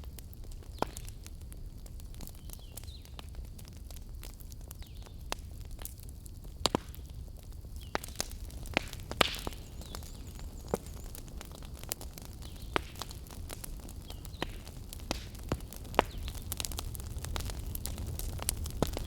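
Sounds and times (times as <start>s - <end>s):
low rumble of flames: 0.0s - 19.0s
wood fire popping and snapping: 0.0s - 19.0s.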